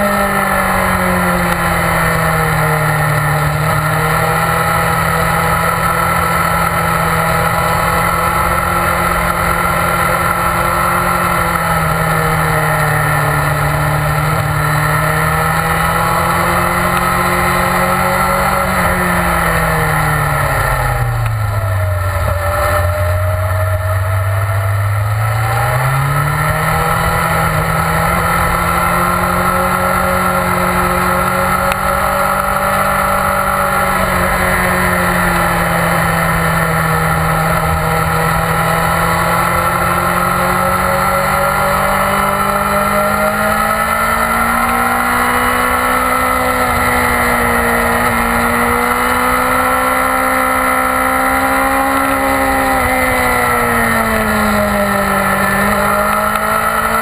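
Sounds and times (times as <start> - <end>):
motorcycle engine revving high: 0.0 - 57.0.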